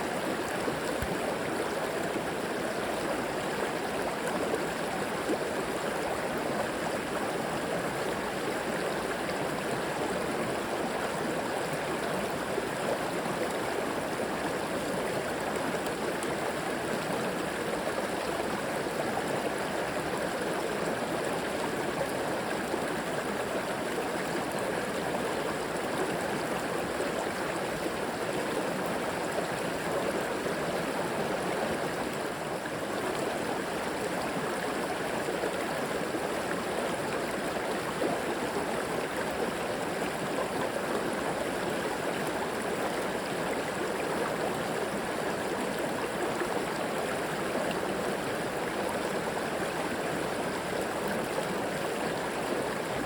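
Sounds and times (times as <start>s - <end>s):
river flowing over rocks: 0.1s - 53.0s.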